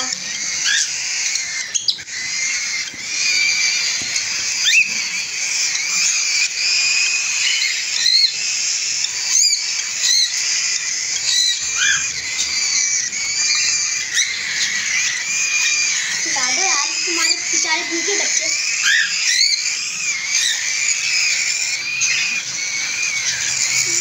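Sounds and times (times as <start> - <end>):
cockatiels chattering: 0.0 - 24.0
sharp bird chirps: 0.0 - 24.0.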